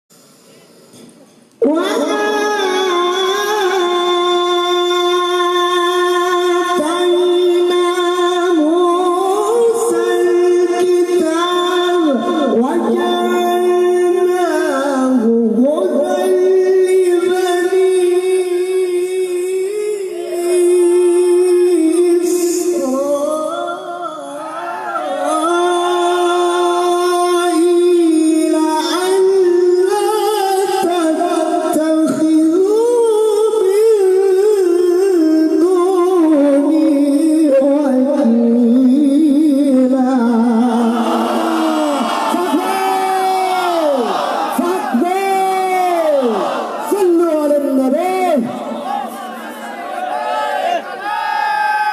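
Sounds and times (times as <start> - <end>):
person reciting melodically: 1.6 - 49.7.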